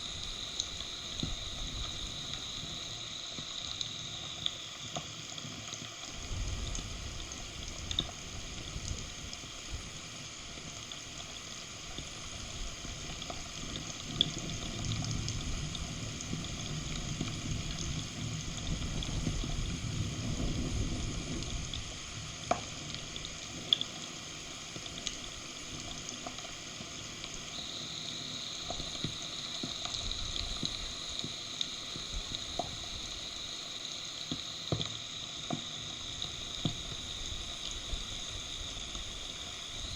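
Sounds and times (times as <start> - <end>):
raindrops clicking close by: 0.1 - 10.0, 10.6 - 39.9.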